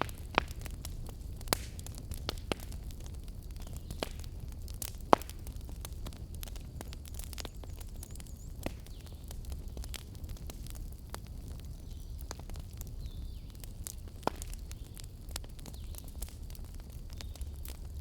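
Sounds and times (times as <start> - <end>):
fire crackles and pops: 0.0 - 18.0
wood fire rumbling: 0.0 - 18.0.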